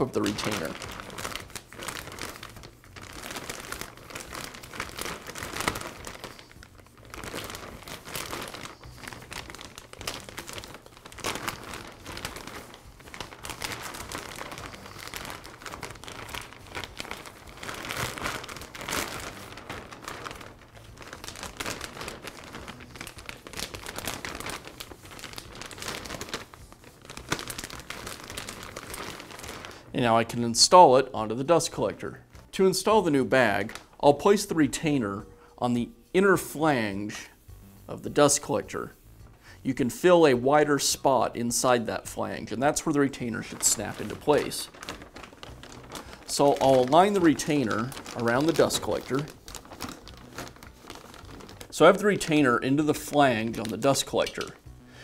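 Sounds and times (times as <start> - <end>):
plastic bag crinkling: 0.0 - 35.5, 38.0 - 55.0.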